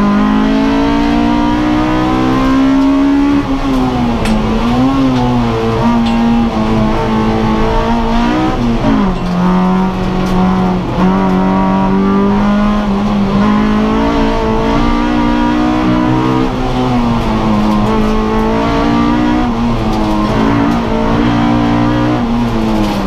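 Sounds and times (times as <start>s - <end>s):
race car engine revving under load: 0.0s - 23.0s.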